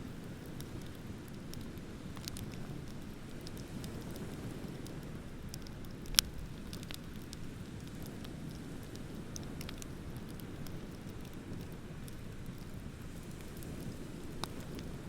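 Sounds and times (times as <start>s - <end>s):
wood bonfire crackling: 0.0s - 15.0s.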